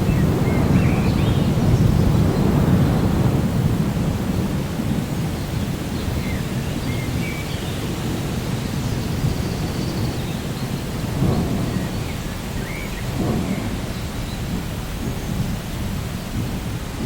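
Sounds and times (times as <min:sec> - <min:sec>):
distant thunder: 0:00.0 - 0:17.0
rain rumbling: 0:00.0 - 0:17.0.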